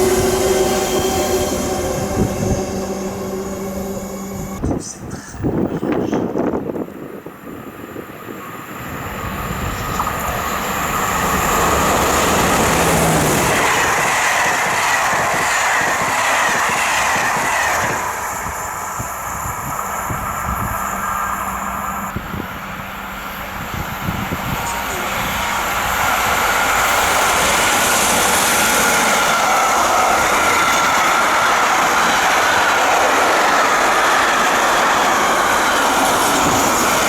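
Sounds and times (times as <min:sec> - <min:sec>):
electric train passing: 0:00.0 - 0:37.0.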